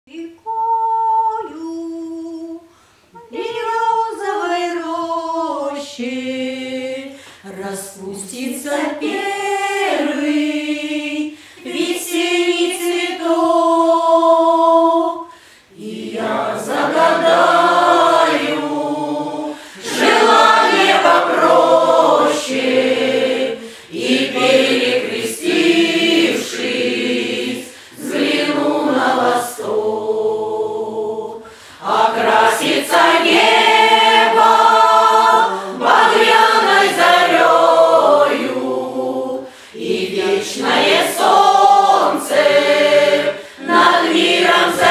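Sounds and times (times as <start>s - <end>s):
women's voices singing: 0.1s - 44.9s
lower voices singing: 0.2s - 44.9s.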